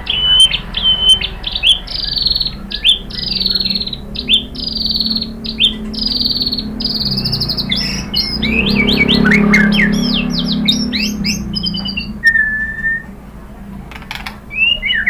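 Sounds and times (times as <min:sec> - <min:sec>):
bird singing trilled notes: 0:00.0 - 0:15.0
low hum: 0:00.0 - 0:15.0.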